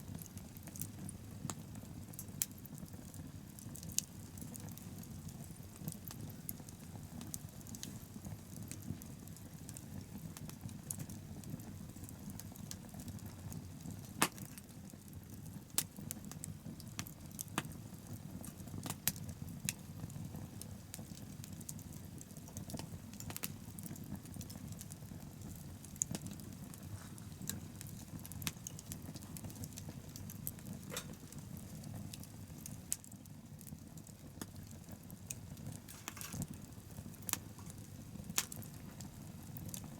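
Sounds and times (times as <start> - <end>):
bonfire flames rumbling: 0.0 - 39.9
fire crackles and pops: 0.0 - 39.9.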